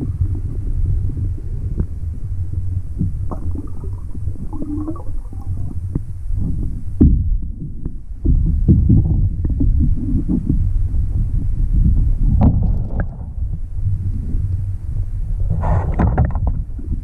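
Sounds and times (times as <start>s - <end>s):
muffled underwater stream rumble: 0.0s - 17.0s.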